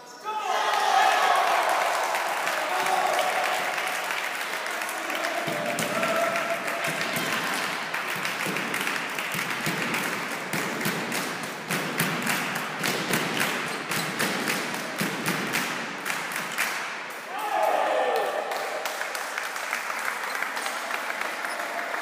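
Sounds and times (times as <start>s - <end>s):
sports hall murmur: 0.0s - 22.0s
sharp taps and claps: 1.6s - 17.3s, 18.2s - 22.0s.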